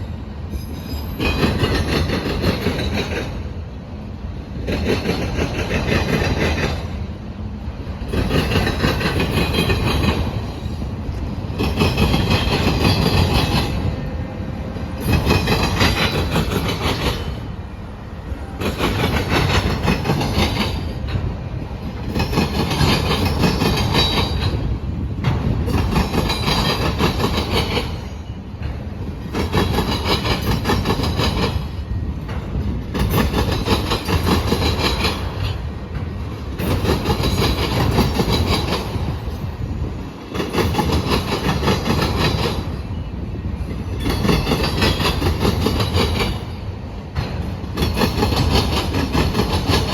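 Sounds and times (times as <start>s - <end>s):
train wheels clattering over rail joints: 0.4s - 7.2s, 7.8s - 14.2s, 14.8s - 17.8s, 18.4s - 49.9s.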